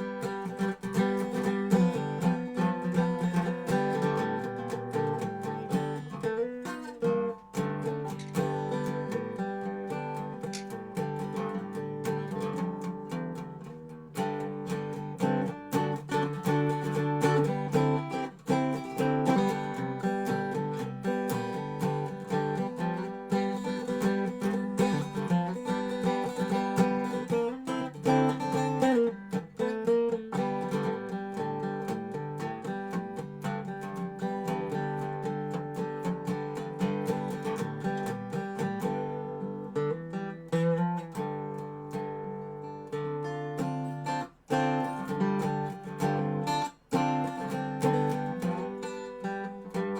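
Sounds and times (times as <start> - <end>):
resonator guitar playing blues: 0.0 - 49.9.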